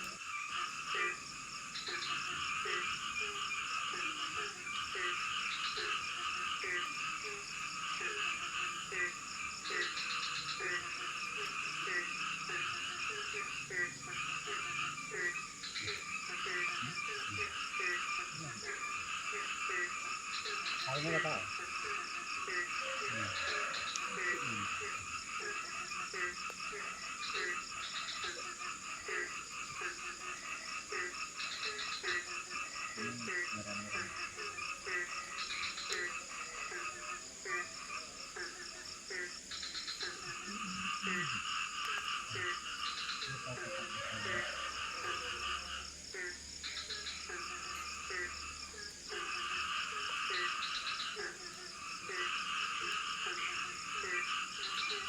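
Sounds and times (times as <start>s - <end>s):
deep frog croaking: 0.0s - 55.0s
frogs calling in pulsed trills: 0.0s - 55.0s.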